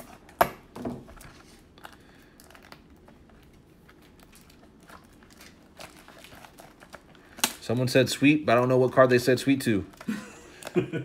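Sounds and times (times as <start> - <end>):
cellophane crinkling and tearing: 1.1 - 10.8.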